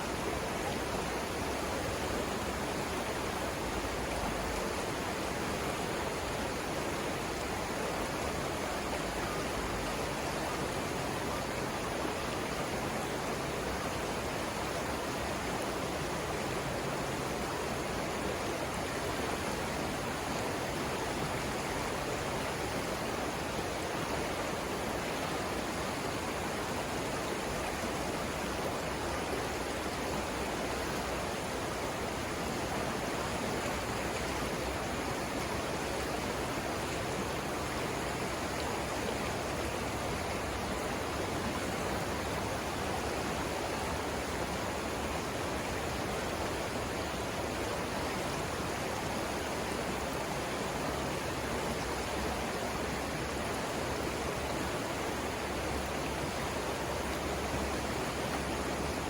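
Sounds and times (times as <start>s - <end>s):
river water rushing over rapids: 0.0s - 59.0s.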